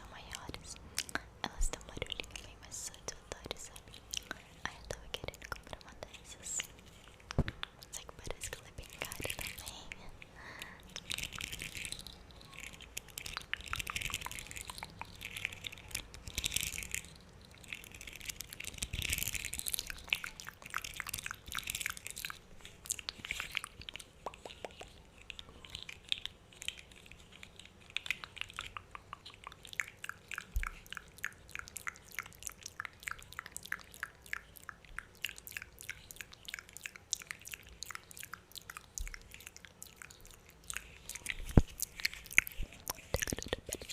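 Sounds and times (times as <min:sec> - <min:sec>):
wet mouth clicks and lip smacks: 0:03.3 - 0:43.9.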